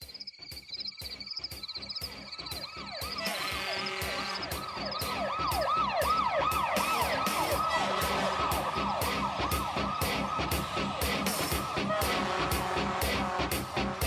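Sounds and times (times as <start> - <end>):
theme music with steady beat: 0.0 - 14.0
siren yelping: 1.1 - 13.7.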